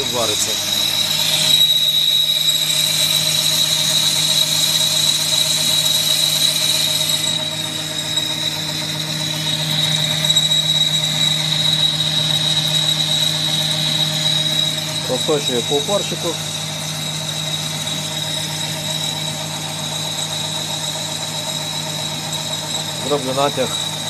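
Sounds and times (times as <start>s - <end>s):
lathe cutting tool squealing: 0.0s - 24.0s
lathe drive hum: 0.0s - 24.0s.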